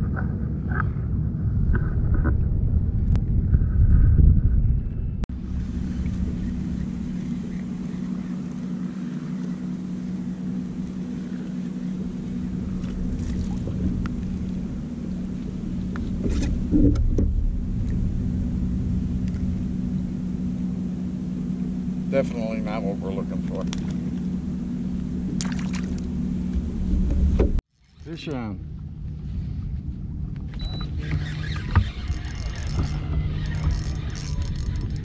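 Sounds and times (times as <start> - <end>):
boat motor running: 5.3 - 35.0.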